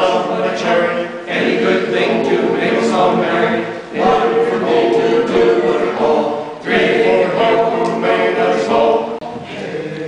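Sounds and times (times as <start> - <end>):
men's chorus singing: 0.0 - 10.0.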